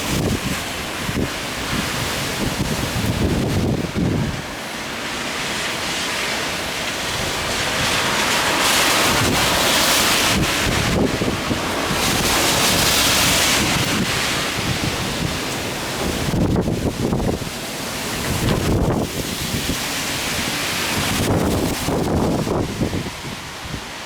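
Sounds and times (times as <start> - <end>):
wind buffeting microphone: 0.0 - 4.7, 5.4 - 24.0
wind rushing through branches: 0.0 - 24.0.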